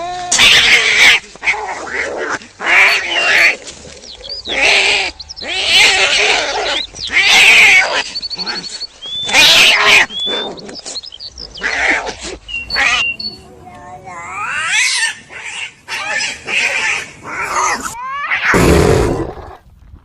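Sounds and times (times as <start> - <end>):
cats and kittens meowing: 0.0 - 3.7, 4.4 - 19.4.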